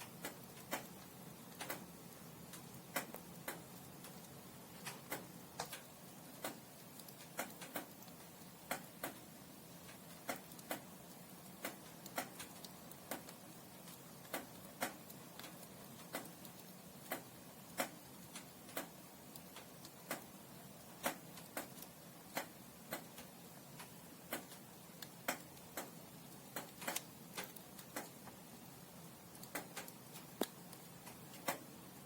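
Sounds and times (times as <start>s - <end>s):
faint steady hiss: 0.0s - 32.0s
firewood crackling and popping: 0.0s - 32.0s.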